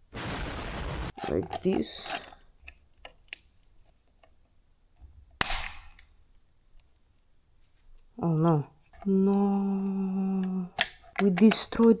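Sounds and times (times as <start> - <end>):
plastic mount cracking: 1.1 - 7.3, 7.9 - 12.0
parts clicking: 1.1 - 12.0.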